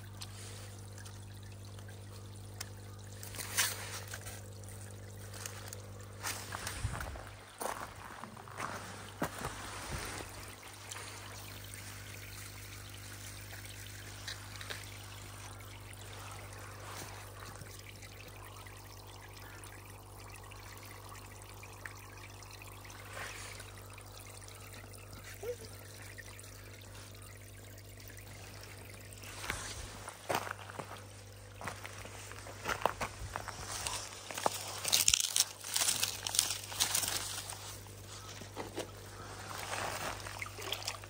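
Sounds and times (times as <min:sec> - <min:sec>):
air stones bubbling in water: 0:00.0 - 0:41.0
steady low hum: 0:00.0 - 0:41.0.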